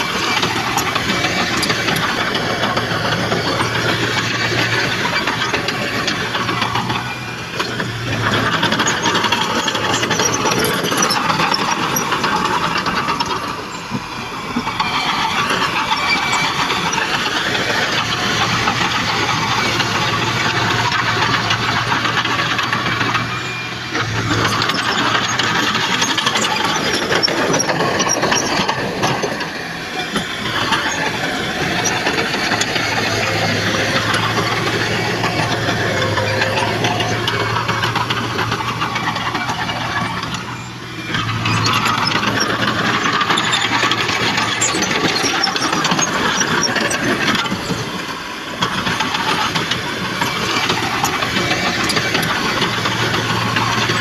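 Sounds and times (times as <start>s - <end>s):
heavy machinery diesel engines humming: 0.0s - 54.0s.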